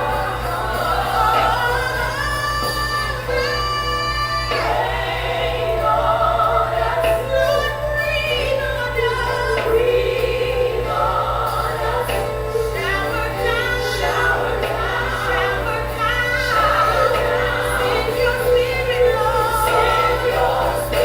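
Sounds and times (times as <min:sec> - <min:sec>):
gospel choir singing: 0:00.0 - 0:21.0
musical accompaniment: 0:00.0 - 0:21.0.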